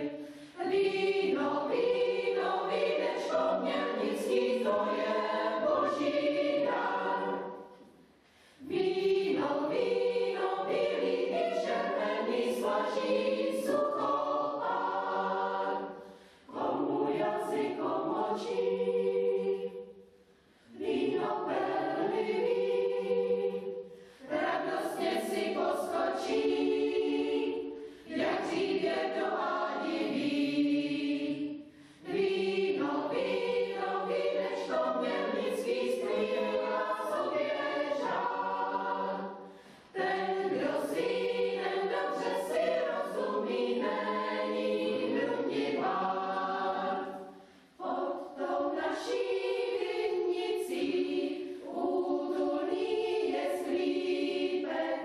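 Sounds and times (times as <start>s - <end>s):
choir singing unaccompanied: 0.0s - 8.0s, 8.6s - 55.0s.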